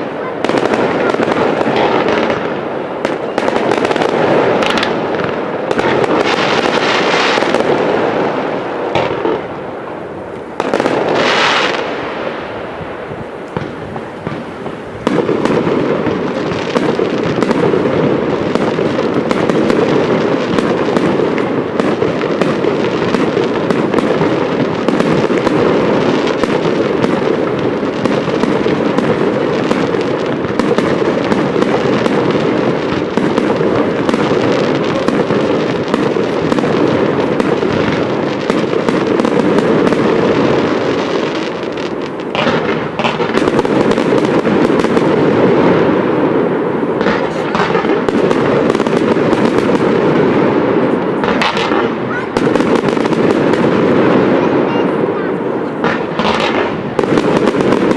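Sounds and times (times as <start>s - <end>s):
fireworks launches and bursts: 0.0s - 57.9s.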